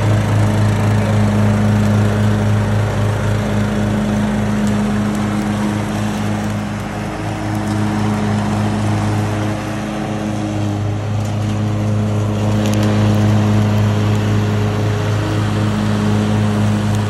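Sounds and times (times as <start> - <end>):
riding lawn mower engine running: 0.0 - 17.0.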